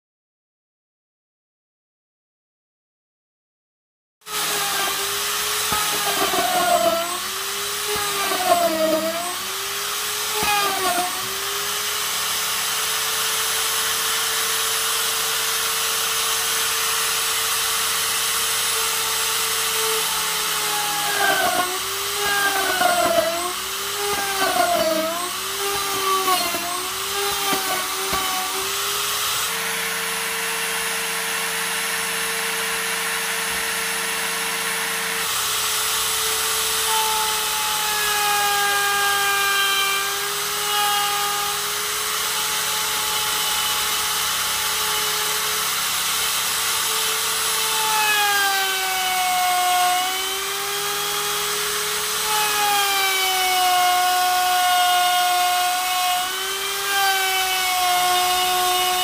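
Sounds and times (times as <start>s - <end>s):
electric router whining: 4.3s - 59.0s.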